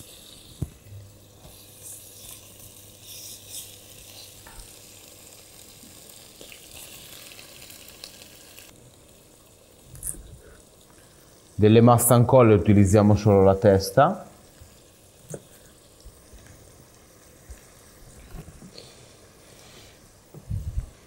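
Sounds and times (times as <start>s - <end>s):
shrimp frying in oil: 0.0s - 21.0s.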